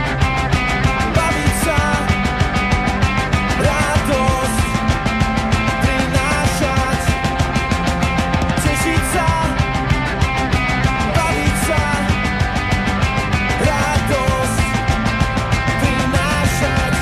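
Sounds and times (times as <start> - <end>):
rock song with drums and guitar: 0.0 - 17.0.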